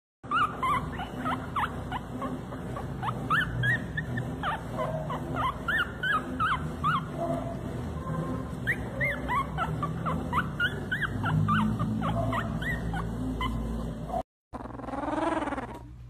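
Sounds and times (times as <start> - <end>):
puppies whimpering: 0.2 - 15.9.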